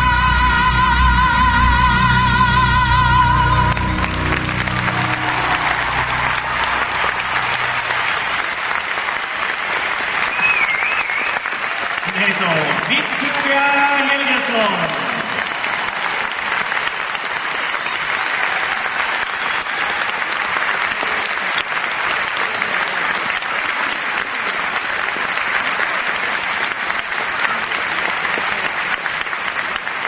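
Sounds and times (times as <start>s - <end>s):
crowd applauding: 3.2s - 30.0s.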